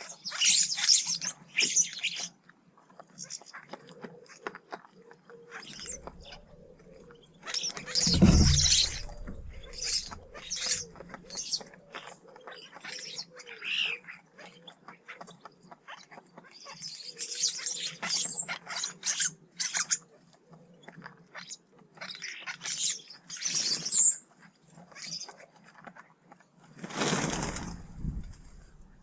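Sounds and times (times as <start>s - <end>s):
birds chattering calls: 0.0s - 26.2s.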